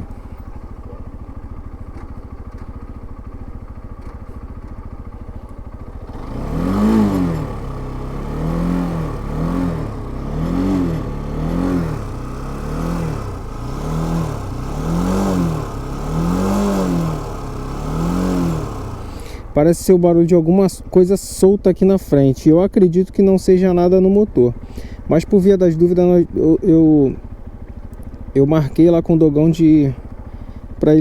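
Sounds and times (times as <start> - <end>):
motorcycle engine idling: 0.0 - 31.0
motorcycle engine revving: 0.0 - 31.0.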